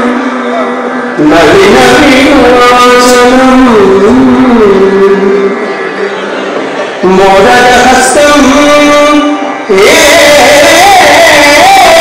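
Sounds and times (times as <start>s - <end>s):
person singing dance song: 0.0s - 12.0s.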